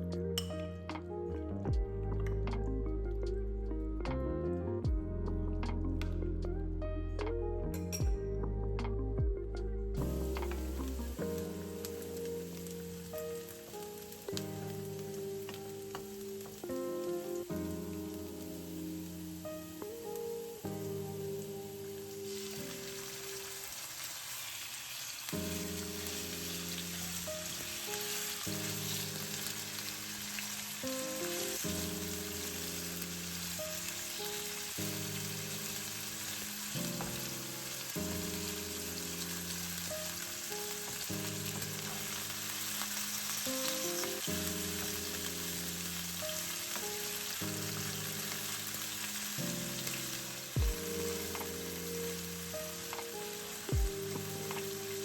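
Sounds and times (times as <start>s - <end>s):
soft background music: 0.0s - 24.4s, 25.3s - 55.0s
food sizzling in hot oil: 10.0s - 55.0s.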